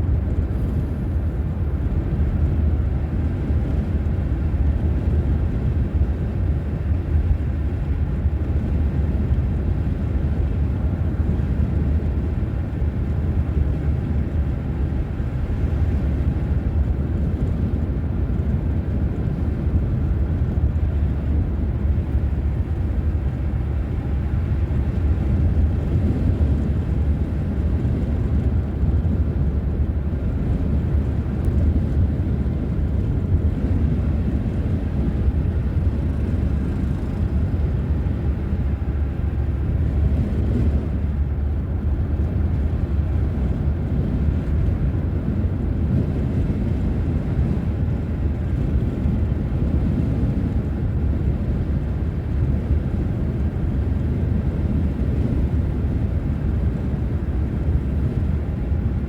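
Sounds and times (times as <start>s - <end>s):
car interior road and engine noise: 0.0s - 59.0s.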